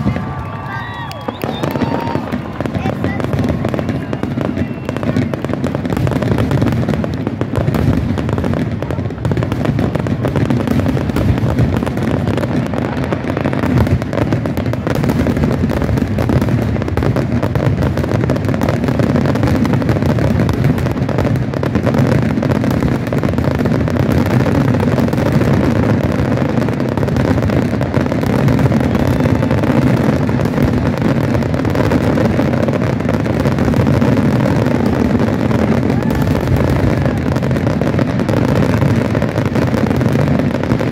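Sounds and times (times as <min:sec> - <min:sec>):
fireworks barrage: 0:00.0 - 0:40.9
fireworks crackling: 0:00.0 - 0:40.9.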